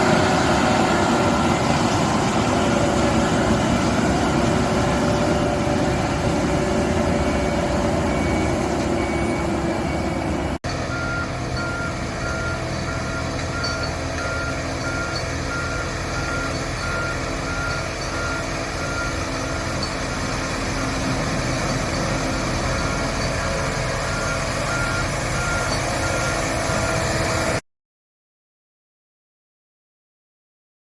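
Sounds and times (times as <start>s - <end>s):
heavy machinery engine running: 0.0s - 27.6s
reversing alarm beeping: 0.0s - 27.6s.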